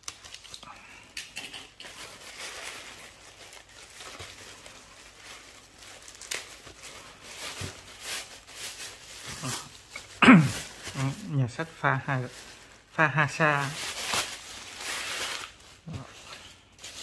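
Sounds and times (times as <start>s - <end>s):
plastic bag rustling and crinkling: 0.0s - 17.0s.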